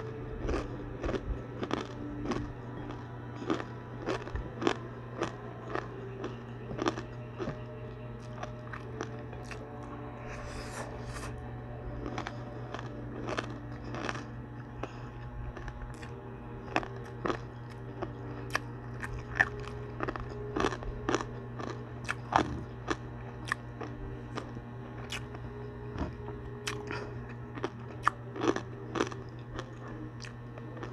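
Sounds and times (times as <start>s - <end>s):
crunchy chewing of pork rinds: 0.0s - 30.9s
steady low hum: 0.0s - 30.9s.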